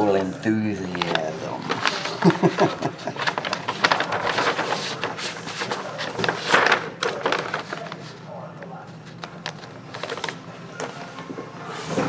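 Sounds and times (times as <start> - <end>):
packaging rustling and clicking: 0.9 - 11.2.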